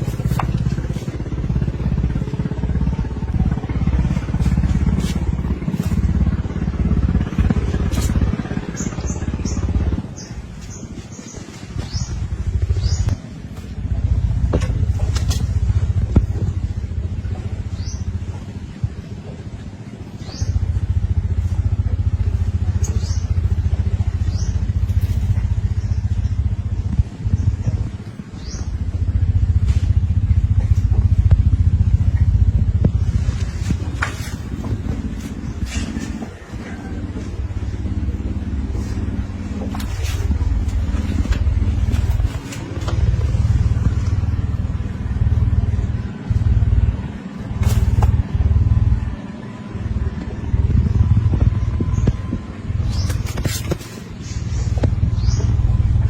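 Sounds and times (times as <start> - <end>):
engine rumbling steadily: 0.0 - 56.0.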